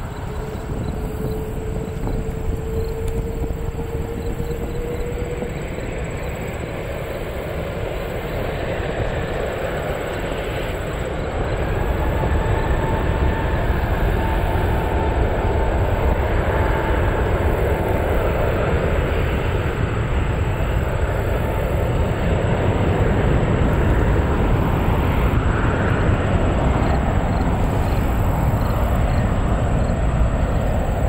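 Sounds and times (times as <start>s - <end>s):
faint whine: 0.0s - 31.0s
jet engine rush: 0.0s - 31.0s.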